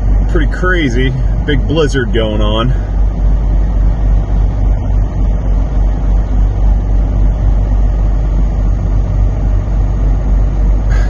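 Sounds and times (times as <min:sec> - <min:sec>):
steady low hum: 0:00.0 - 0:11.0
wind buffeting truck cab: 0:00.0 - 0:11.0.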